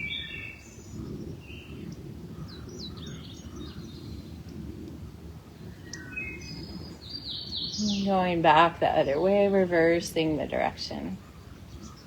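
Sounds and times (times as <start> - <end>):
low background noise: 0.0 - 12.0
songbirds chirping: 0.0 - 12.0.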